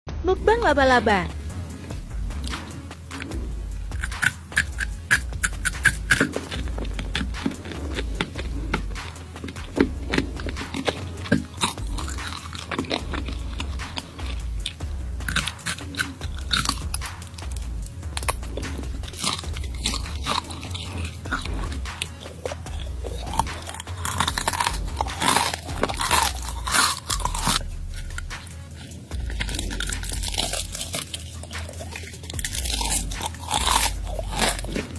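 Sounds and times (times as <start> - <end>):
crunching and chewing: 1.8 - 34.9.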